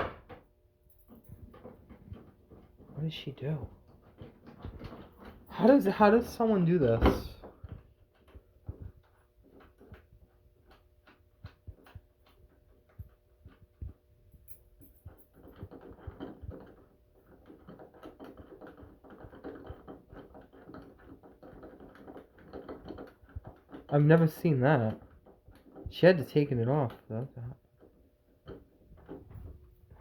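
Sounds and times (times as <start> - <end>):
rustling clatter of handling things: 0.0 - 30.0
scattered clicks and knocks: 0.0 - 30.0.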